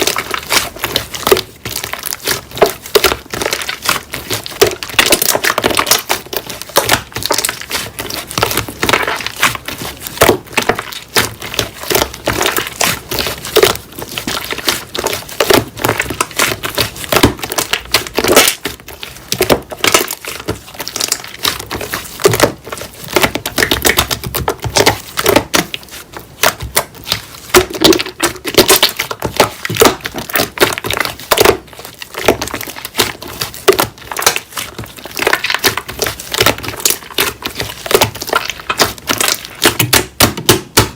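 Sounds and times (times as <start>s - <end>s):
slime squished by hand: 0.0s - 40.9s.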